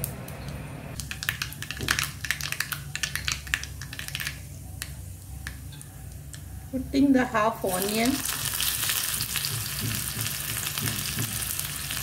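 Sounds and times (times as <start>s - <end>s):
mustard seeds spluttering in hot oil: 1.0s - 6.5s, 7.6s - 12.0s.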